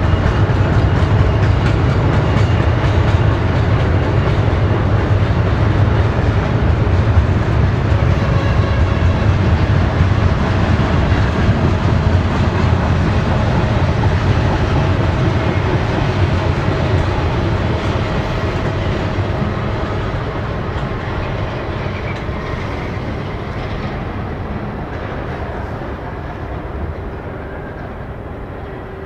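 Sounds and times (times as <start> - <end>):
freight train wheels on rails: 0.0 - 29.0.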